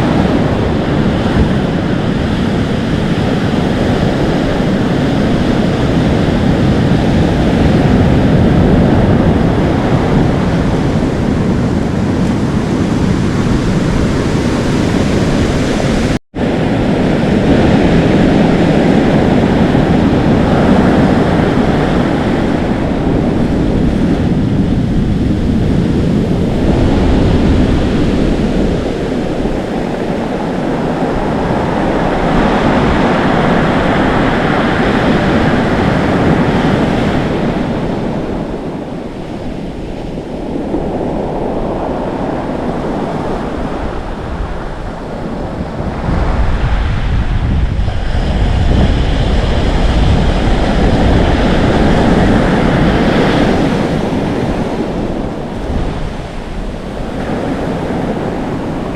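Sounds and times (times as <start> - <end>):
ocean surf washing: 0.0 - 58.9
wind rumbling on microphone: 0.0 - 58.9.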